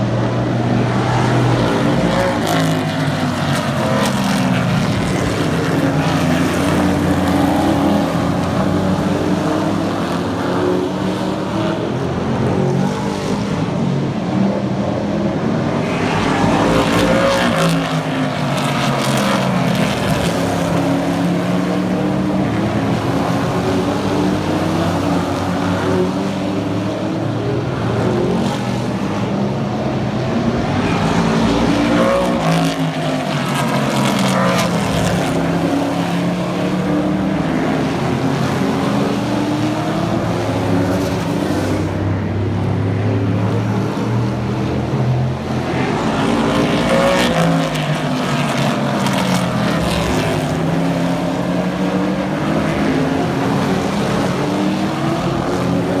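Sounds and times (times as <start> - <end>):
race truck engines passing: 0.0 - 56.0.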